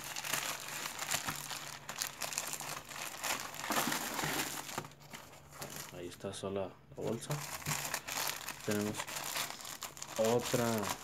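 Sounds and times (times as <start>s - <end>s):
plastic bag crinkling: 0.0s - 6.1s, 7.1s - 11.0s.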